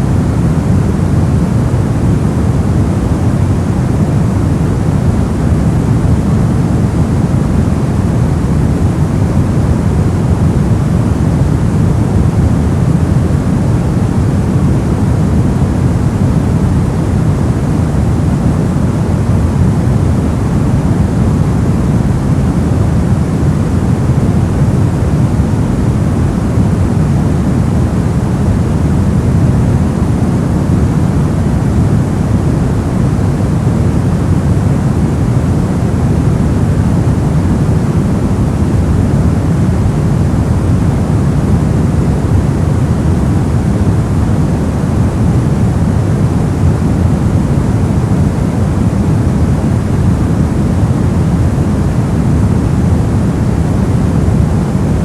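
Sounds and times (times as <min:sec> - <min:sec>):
white noise rush: 0:00.0 - 0:55.0.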